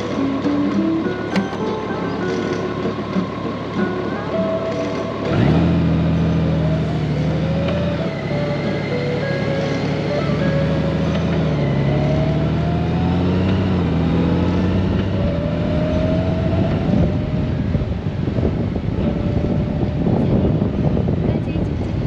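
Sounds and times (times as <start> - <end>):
motorcycle engine: 0.0 - 22.0
wind and road noise: 0.0 - 22.0.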